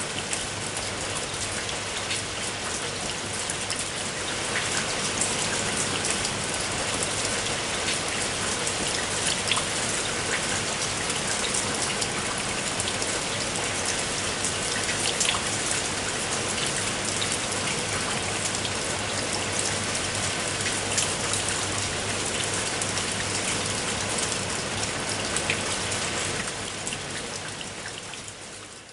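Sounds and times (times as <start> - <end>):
rain drops striking a surface: 0.0 - 28.9.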